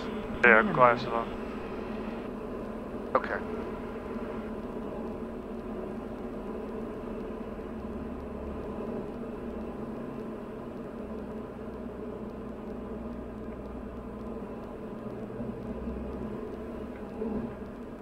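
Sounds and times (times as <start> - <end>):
aircraft engine and propeller drone: 0.0 - 18.0.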